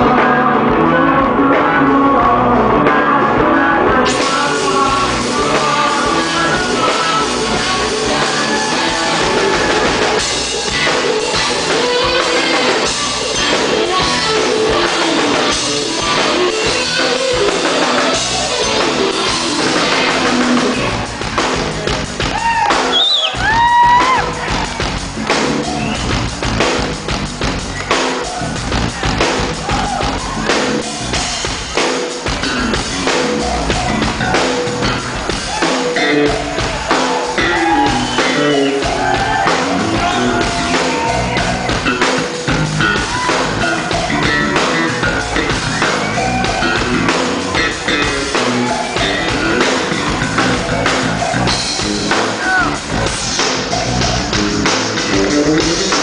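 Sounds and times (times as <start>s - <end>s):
drum kit steady beat: 0.0s - 56.0s
electric bass solo: 0.0s - 56.0s.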